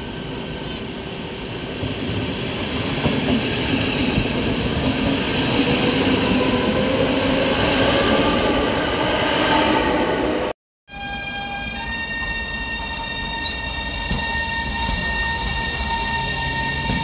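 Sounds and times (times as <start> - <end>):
train wheels on rails: 0.0 - 10.5, 11.8 - 17.0.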